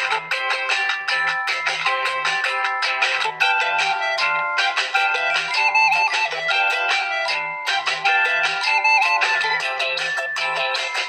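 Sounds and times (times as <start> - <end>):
phone ringtone melody: 0.0 - 11.0.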